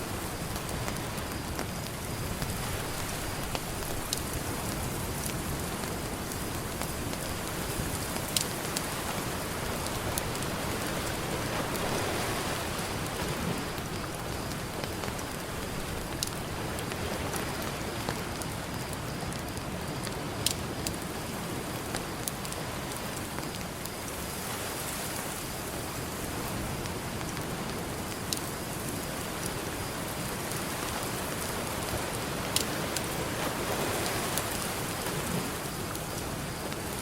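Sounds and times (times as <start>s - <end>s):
ocean surf: 0.0s - 18.9s, 20.6s - 37.0s
campfire crackling and popping: 0.0s - 24.3s, 25.4s - 37.0s.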